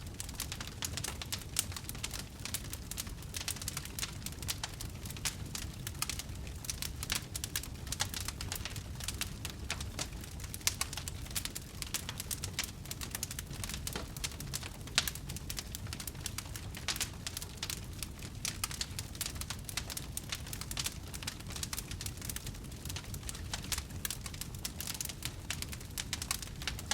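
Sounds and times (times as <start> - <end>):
low flame rumble: 0.0 - 26.9
wood fire crackling: 0.0 - 26.9.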